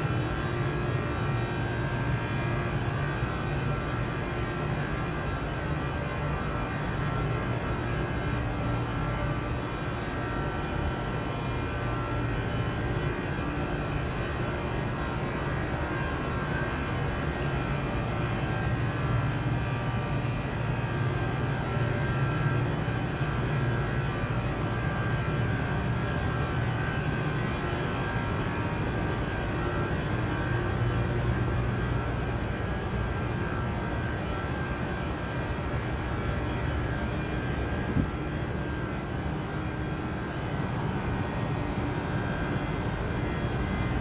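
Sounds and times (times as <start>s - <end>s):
factory machinery hum: 0.0s - 44.0s.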